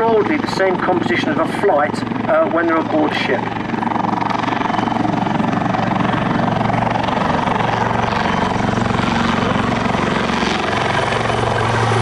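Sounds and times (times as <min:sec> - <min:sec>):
helicopter flying past: 0:00.0 - 0:12.0.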